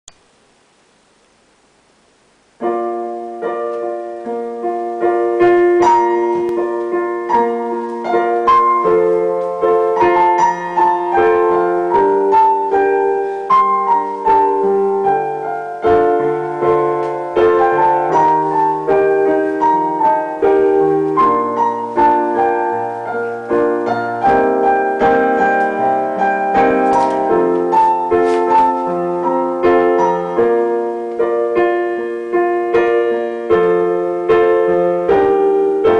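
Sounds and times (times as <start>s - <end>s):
piano chords and melody: 0.1s - 35.9s.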